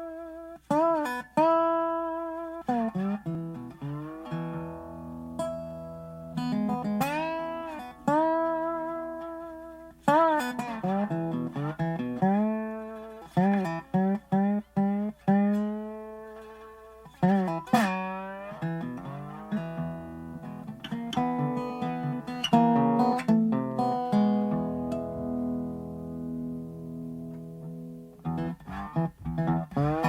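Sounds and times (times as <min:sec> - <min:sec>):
plucked guitar with bending notes: 0:00.0 - 0:30.0.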